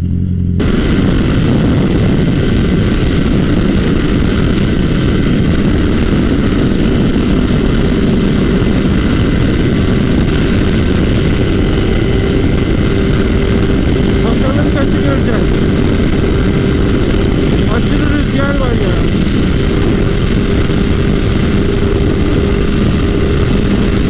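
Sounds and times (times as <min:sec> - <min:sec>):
motorcycle engine at speed: 0:00.0 - 0:24.0
wind rush: 0:00.0 - 0:24.0.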